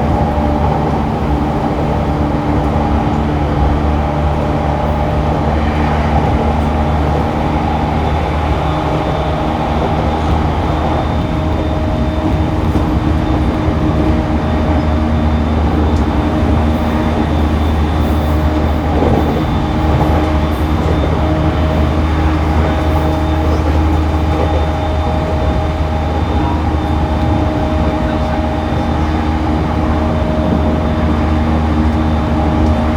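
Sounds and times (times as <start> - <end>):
train running gear whining: 0.0 - 32.9
train wheels rumbling on track: 0.0 - 32.9.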